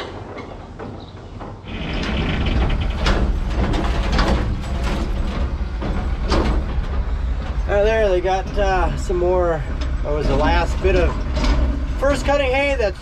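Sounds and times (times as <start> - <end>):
machinery clattering chains and gears: 0.0 - 13.0
deep low drone: 1.7 - 13.0.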